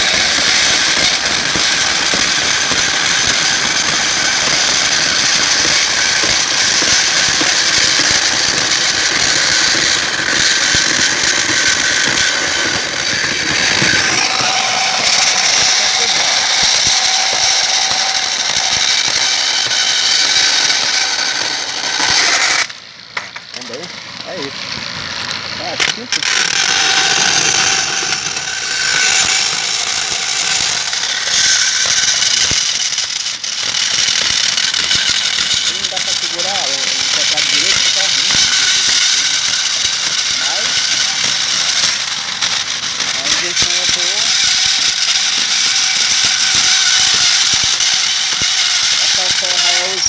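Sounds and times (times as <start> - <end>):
rattling crackle: 0.0 - 50.0
saw blade grinding plastic: 0.0 - 50.0.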